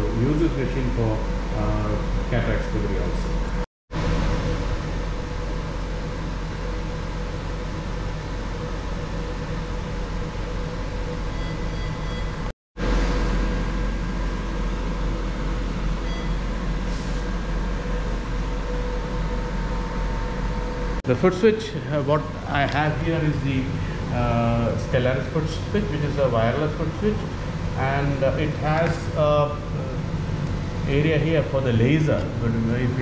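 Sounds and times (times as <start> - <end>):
air-conditioning hum and hiss: 0.0 - 33.0
deep low hum: 0.0 - 33.0.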